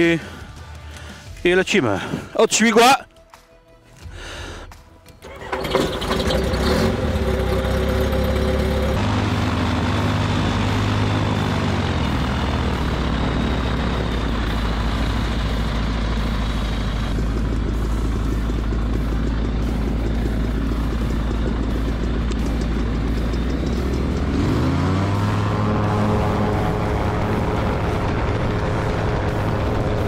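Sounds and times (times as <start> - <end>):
aircraft engine starting and running: 3.3 - 30.0.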